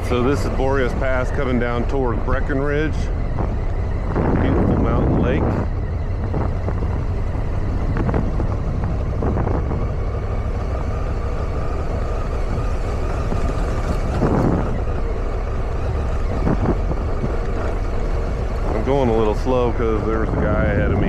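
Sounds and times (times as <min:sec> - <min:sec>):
motorcycle engine running: 0:00.0 - 0:21.0
road noise: 0:00.0 - 0:21.0
wind noise: 0:00.0 - 0:21.0.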